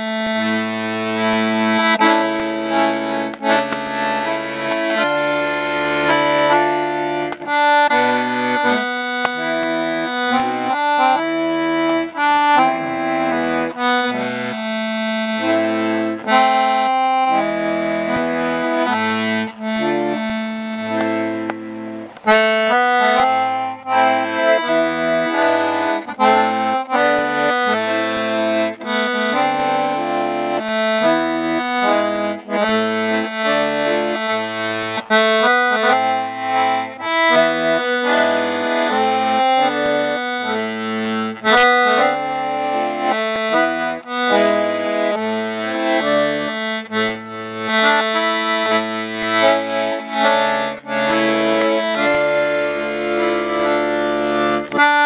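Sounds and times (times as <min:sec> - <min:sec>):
accordion playing: 0:00.0 - 0:55.0.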